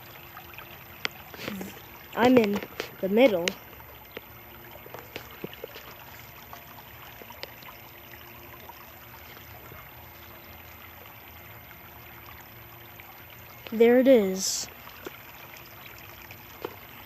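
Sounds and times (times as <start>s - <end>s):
creek trickling over stones: 0.0s - 17.0s.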